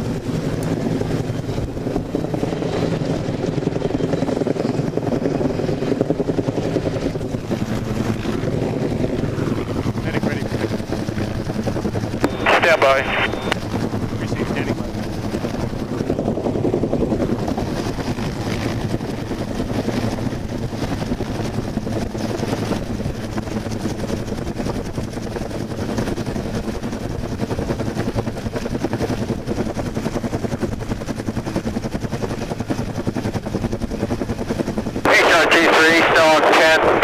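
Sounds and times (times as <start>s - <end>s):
helicopter hovering overhead: 0.0s - 37.0s.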